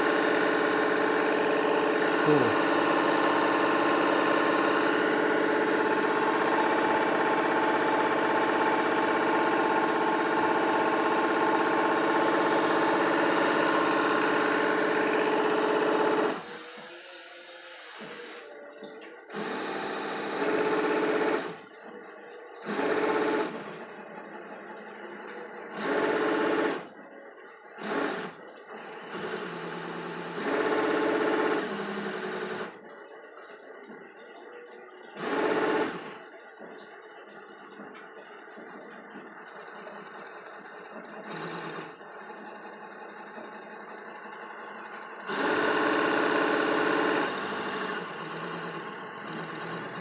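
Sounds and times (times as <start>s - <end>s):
machine whirring hum: 0.0s - 50.0s.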